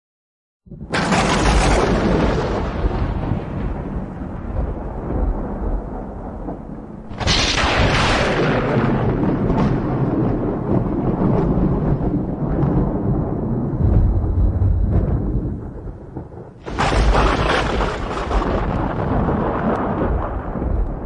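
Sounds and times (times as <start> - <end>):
low thunder rumble: 0.7 - 21.0
sharp thunder crack: 0.7 - 21.0.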